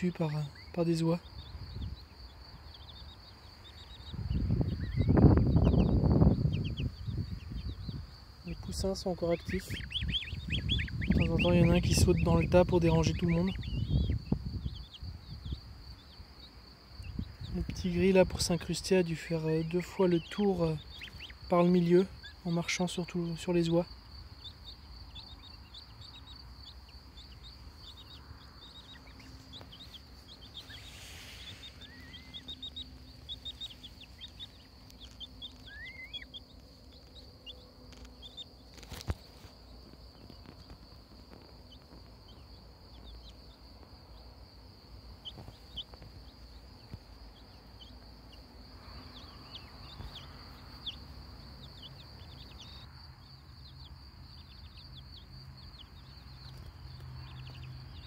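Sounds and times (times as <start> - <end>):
goslings and chicks peeping: 0.0 - 53.0, 53.6 - 58.0.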